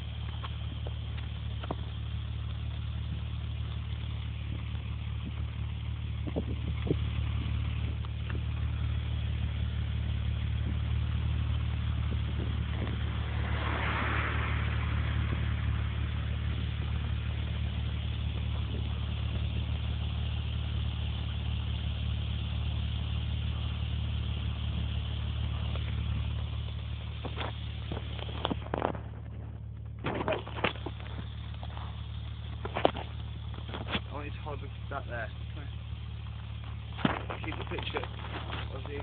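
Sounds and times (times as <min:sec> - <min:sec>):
car exhaust idling: 0:00.0 - 0:39.0.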